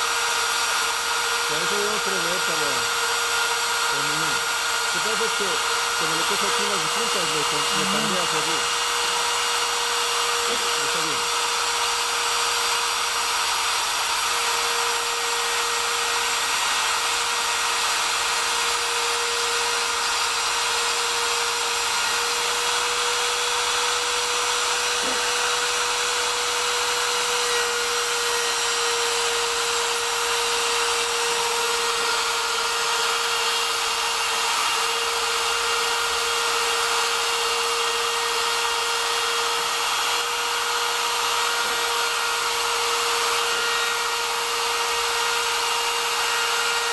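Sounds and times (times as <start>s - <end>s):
router bit cutting wood: 0.0s - 46.9s
spindle motor high whine: 0.0s - 46.9s.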